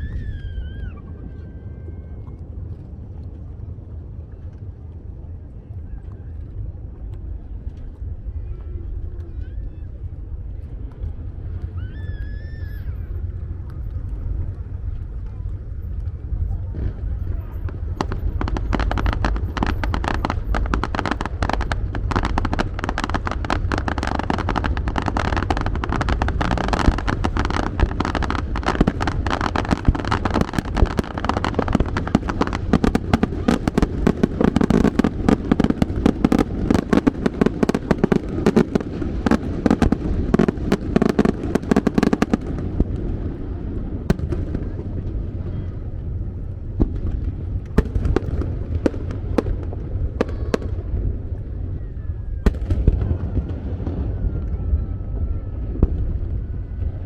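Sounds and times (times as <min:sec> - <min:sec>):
firework booms and crackles: 0:00.0 - 0:57.0.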